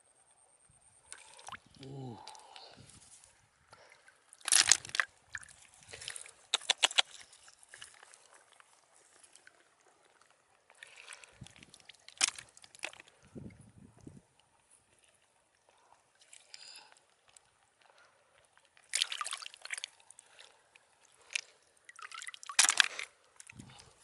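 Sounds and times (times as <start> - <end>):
shallow water sloshing: 1.0 - 24.0.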